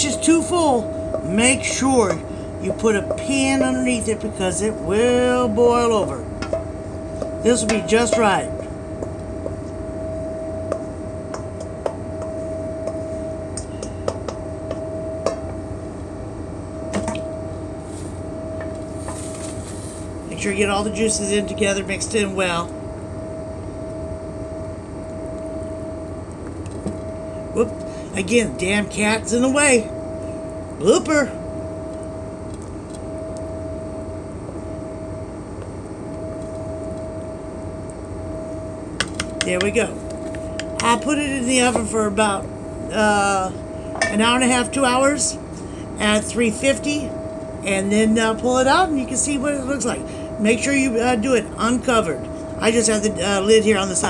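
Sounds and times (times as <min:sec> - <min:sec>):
steady machinery hum: 0:00.0 - 0:54.0
thin steady whine: 0:00.0 - 0:54.0.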